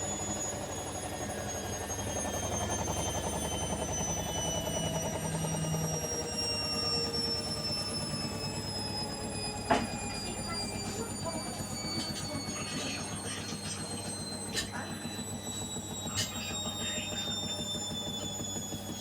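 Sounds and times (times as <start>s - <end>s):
motor whine: 0.0s - 19.0s
washing machine spinning: 0.0s - 19.0s.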